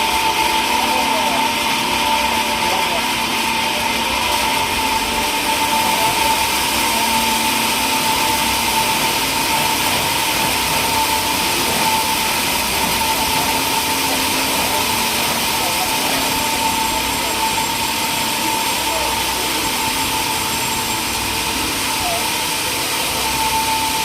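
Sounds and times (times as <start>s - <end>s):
sawmill machinery running: 0.0s - 24.0s.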